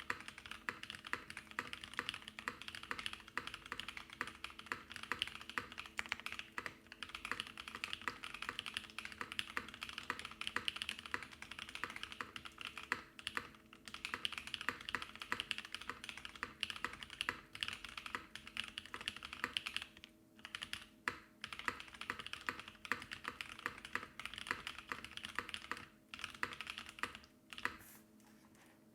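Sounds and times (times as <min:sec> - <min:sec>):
fast typing on mechanical keyboard: 0:00.0 - 0:27.8.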